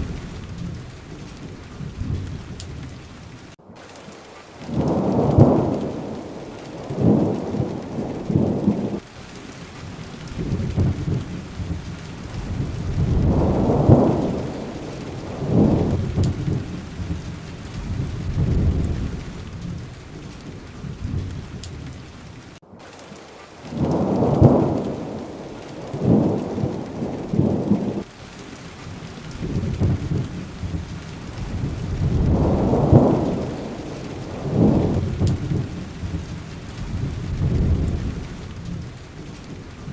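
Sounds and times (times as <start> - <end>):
rolling thunder rumbles: 0.0 - 22.6, 23.6 - 39.9
steady rain falling: 0.0 - 39.9.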